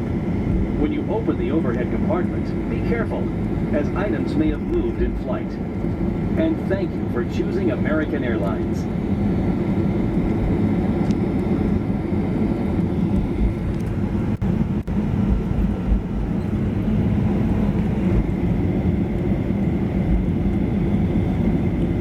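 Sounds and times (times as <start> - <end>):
aircraft cabin rumble: 0.0 - 22.0
faint steady whine: 0.0 - 22.0.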